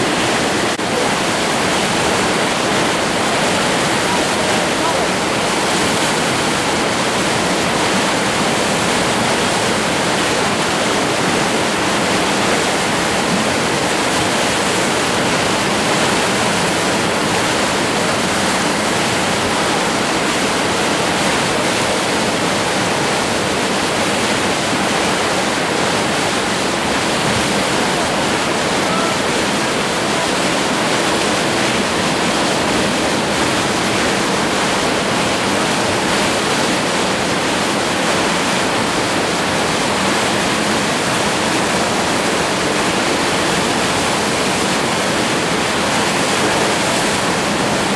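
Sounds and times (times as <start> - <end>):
whitewater rapids rushing: 0.0 - 47.9.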